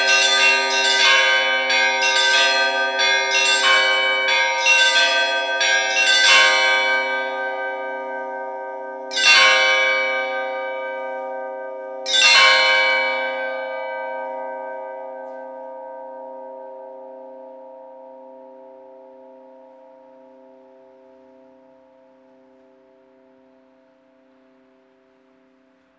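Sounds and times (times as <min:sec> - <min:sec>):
church bells ringing: 0:00.0 - 0:25.8.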